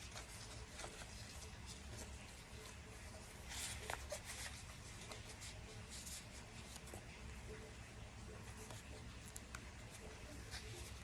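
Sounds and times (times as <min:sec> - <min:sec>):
faint scratching strokes: 0:00.0 - 0:11.0
low steady hum: 0:00.0 - 0:11.0.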